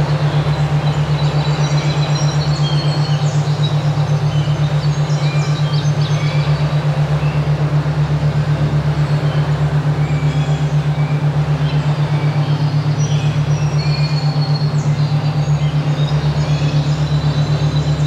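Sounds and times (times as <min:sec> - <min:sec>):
throbbing low hum tone: 0:00.0 - 0:18.0.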